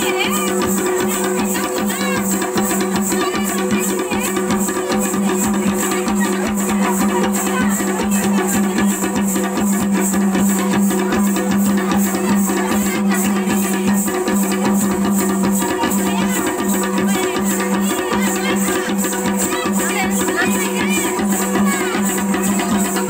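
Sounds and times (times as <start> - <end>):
quick steady drum beat: 0.0 - 23.0.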